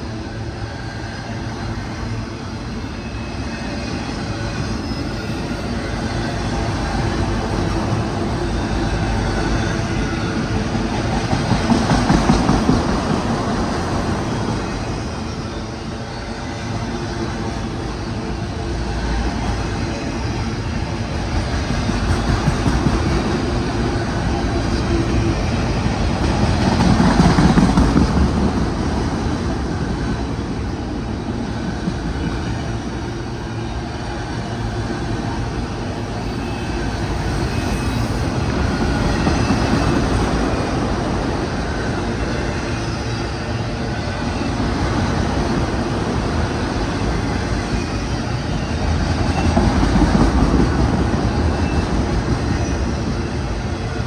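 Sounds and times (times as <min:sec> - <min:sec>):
steel wheels on rails: 0:00.0 - 0:54.0.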